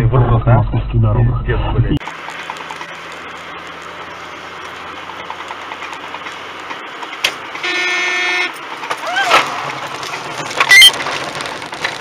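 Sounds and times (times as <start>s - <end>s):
car driving on highway: 2.0s - 12.0s.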